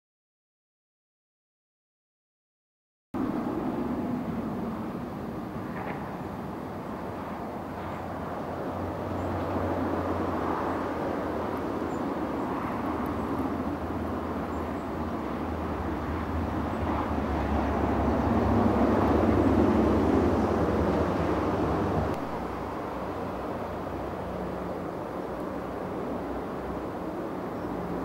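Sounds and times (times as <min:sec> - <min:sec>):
noisy spread of sound: 0:03.2 - 0:28.0
train diesel engines humming: 0:03.2 - 0:28.0.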